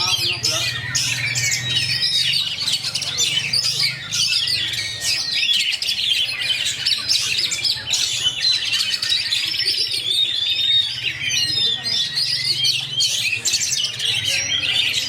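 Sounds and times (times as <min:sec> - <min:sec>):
bird singing whistles and chirps: 0:00.0 - 0:15.0.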